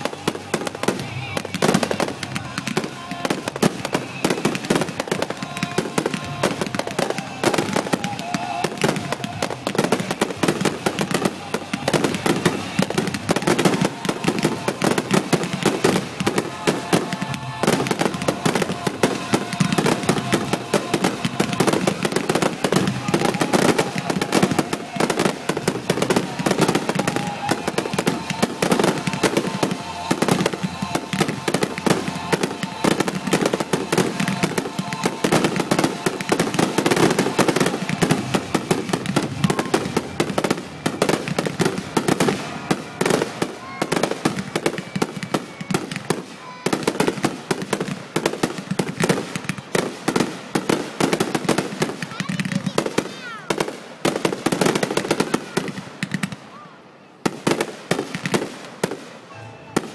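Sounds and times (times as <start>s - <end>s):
firework shell bursts and crackling: 0.0s - 56.5s.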